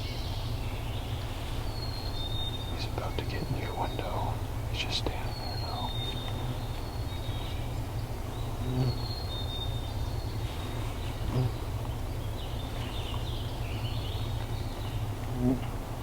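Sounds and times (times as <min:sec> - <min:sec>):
small birds calling: 0:00.0 - 0:15.6.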